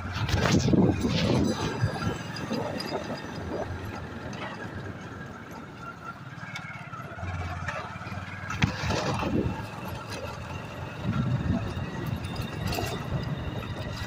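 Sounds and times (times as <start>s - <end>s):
muffled motorcycle engine running: 0.0s - 14.0s.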